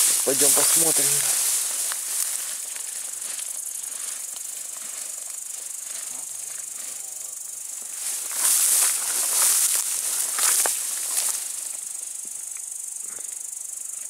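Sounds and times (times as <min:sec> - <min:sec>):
footsteps through tall wheat: 0:00.0 - 0:12.4
steady high hiss: 0:00.0 - 0:14.0.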